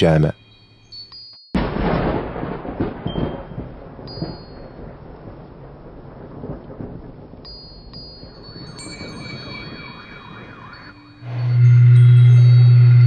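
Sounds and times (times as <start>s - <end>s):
steady rain: 1.6s - 13.0s
thunder rumbling: 1.6s - 13.0s.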